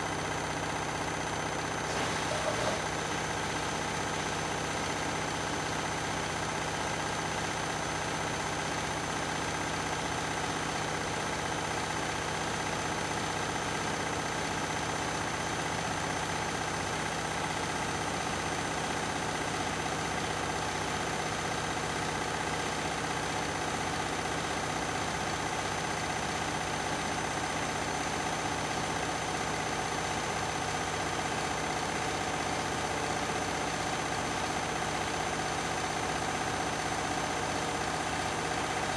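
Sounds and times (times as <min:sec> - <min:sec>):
washing machines running: 0:00.0 - 0:38.9.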